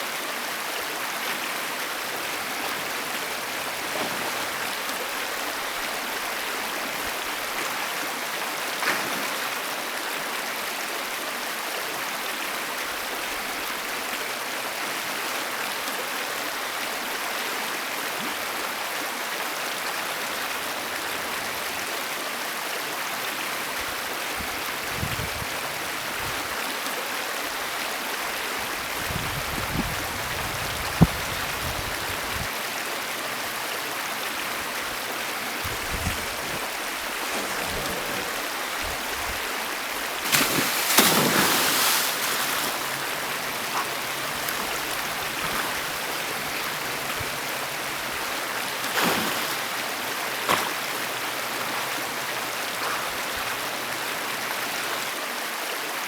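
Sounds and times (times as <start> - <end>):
fast-flowing stream rushing: 0.0 - 25.0, 25.6 - 56.0.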